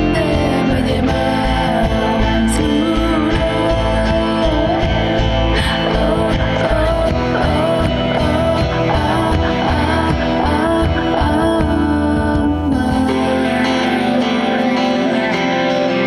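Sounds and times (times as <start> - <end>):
indie rock song with guitar: 0.0 - 16.0.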